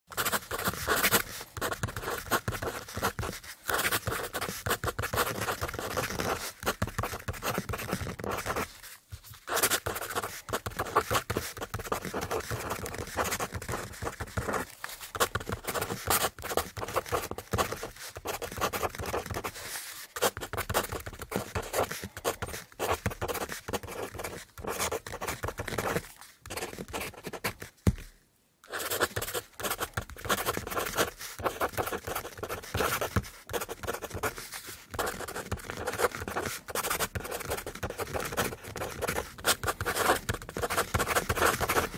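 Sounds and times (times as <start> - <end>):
pen scratching on paper: 0.1 - 28.0, 28.6 - 41.9.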